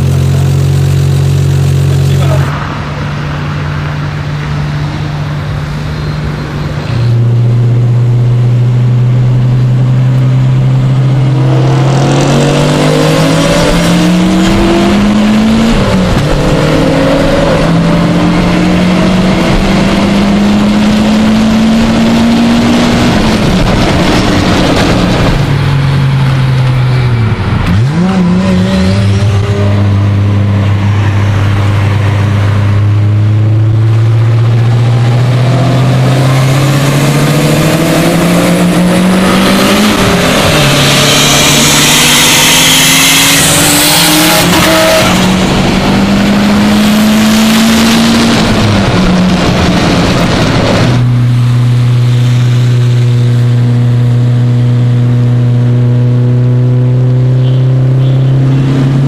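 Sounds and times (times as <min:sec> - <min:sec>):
car engine revving in cabin: 0:05.9 - 0:25.4, 0:26.6 - 0:59.0.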